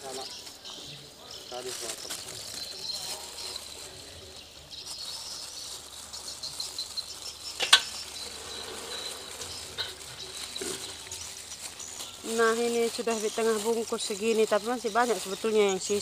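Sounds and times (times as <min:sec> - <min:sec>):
insects chirping: 0:01.5 - 0:16.0.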